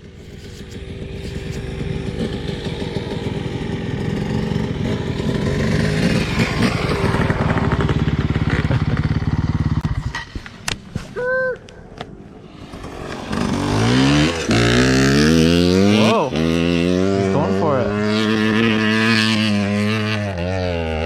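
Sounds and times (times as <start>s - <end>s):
dirt bike engine revving: 0.0s - 10.4s, 12.4s - 21.0s.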